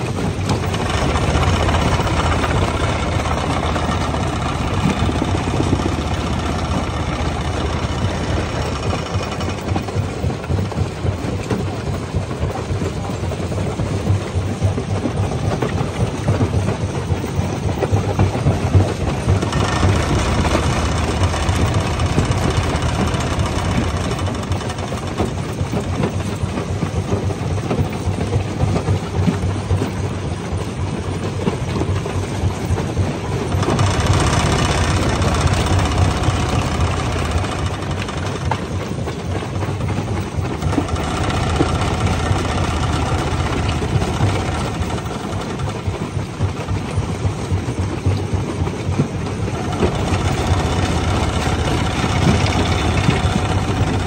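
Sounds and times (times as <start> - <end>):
steady machine drone: 0.0 - 54.0.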